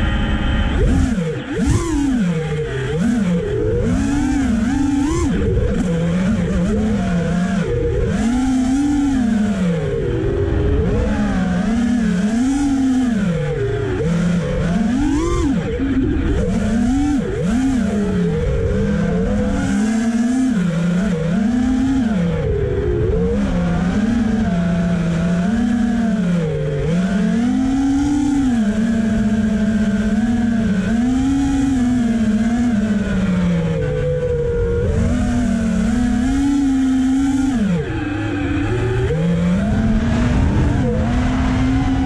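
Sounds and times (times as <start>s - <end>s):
quadcopter propellers whining: 0.0s - 42.0s.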